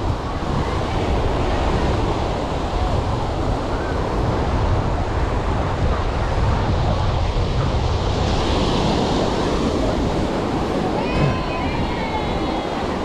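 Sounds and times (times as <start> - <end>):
surf washing onto beach: 0.0 - 13.0
wind rumbling on microphone: 0.0 - 13.0.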